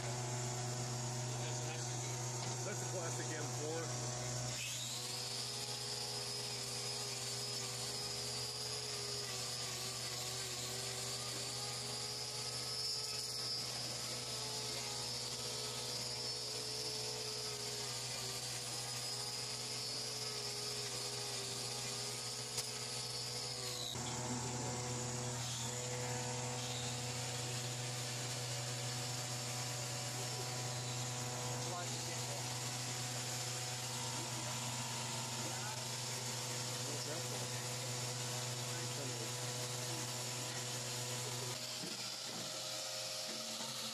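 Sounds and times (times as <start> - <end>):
low mechanical hum: 0.0 - 43.7
angle grinder on hoof: 0.0 - 43.9.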